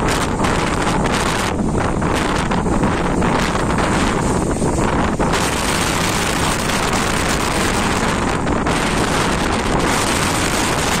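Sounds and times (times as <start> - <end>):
rough sea breaking on shore: 0.0 - 11.0
storm wind buffeting microphone: 0.0 - 11.0.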